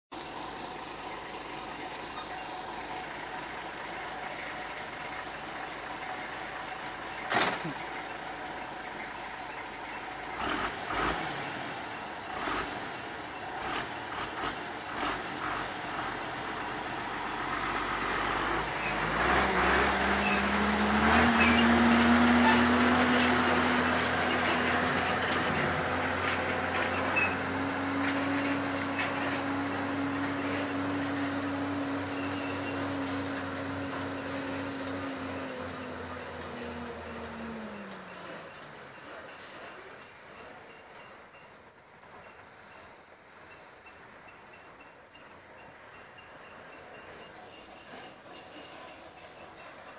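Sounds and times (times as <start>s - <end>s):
diesel truck engine running: 0.1s - 42.5s.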